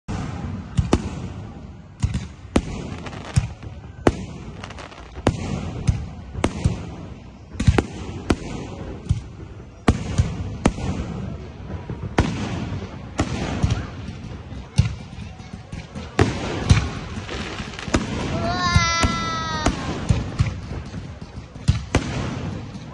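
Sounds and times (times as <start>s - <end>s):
fireworks bursting: 0.1s - 22.9s.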